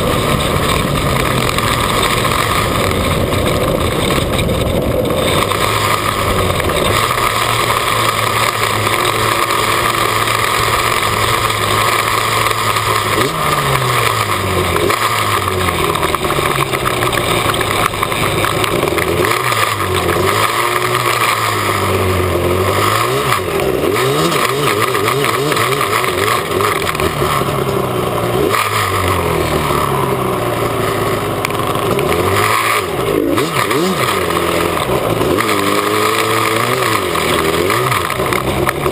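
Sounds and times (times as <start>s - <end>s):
loud steady rush: 0.0s - 38.9s
two-stroke quad engine revving: 0.0s - 38.9s.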